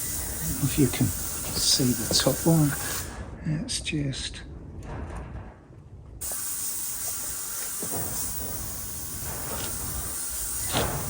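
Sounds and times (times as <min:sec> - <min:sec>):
steady hiss: 0:00.0 - 0:04.4, 0:06.2 - 0:11.0.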